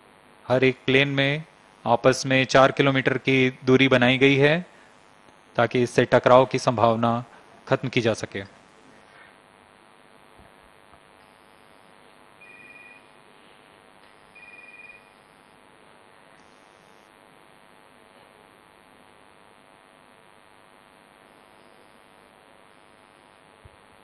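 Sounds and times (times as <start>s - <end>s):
faint hum and hiss: 0.0s - 24.0s.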